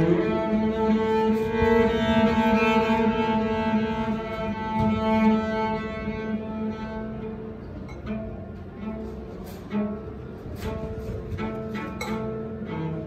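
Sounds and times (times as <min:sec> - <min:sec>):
cello bowed notes: 0:00.0 - 0:13.0.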